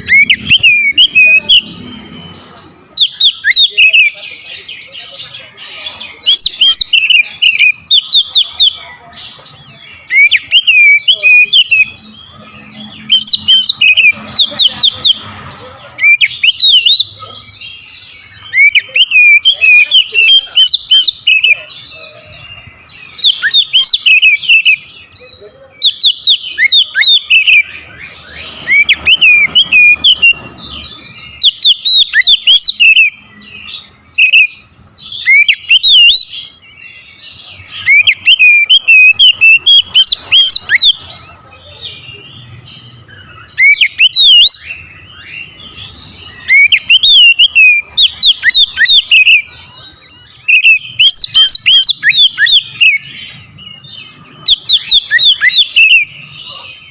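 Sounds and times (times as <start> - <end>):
bird singing whistles and chatter: 0.0 - 56.9.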